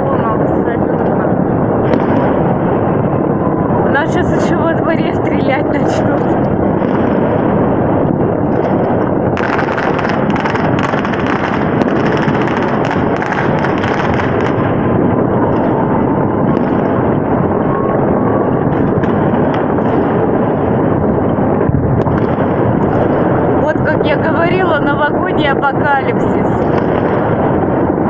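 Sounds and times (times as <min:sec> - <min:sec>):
fireworks bangs and rumble: 0:00.0 - 0:28.0
fireworks cracking and popping: 0:00.8 - 0:03.4, 0:05.1 - 0:28.0.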